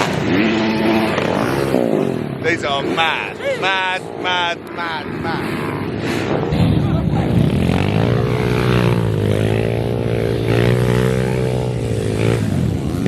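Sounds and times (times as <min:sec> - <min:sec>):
motorbike engine at high revs: 0:00.0 - 0:13.0.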